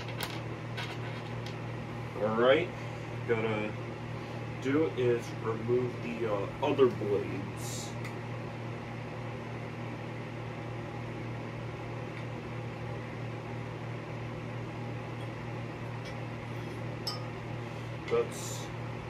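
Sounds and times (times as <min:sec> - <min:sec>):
appliance humming: 0:00.0 - 0:19.0.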